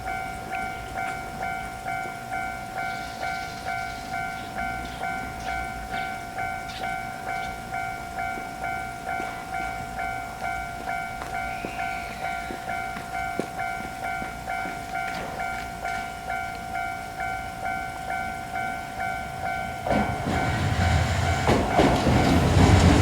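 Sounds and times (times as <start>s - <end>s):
railroad crossing alarm ringing: 0.0s - 23.0s.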